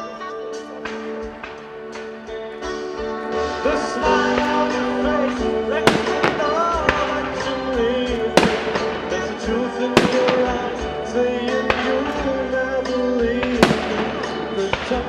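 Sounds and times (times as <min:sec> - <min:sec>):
slow song over sound system: 0:00.0 - 0:15.0
fireworks banging: 0:00.6 - 0:15.0.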